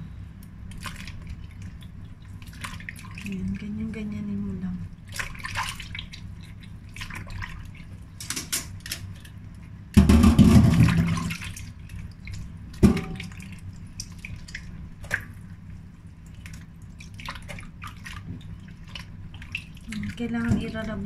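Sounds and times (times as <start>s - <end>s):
water drips and splashes: 0.4s - 21.0s.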